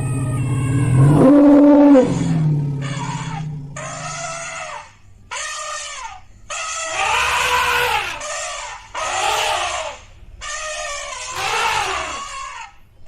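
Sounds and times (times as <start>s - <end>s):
elephant trumpeting: 0.0s - 12.9s.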